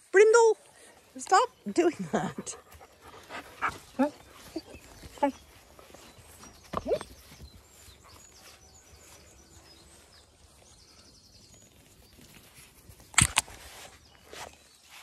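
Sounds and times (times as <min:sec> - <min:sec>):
paws pattering through grass: 0:00.6 - 0:15.0.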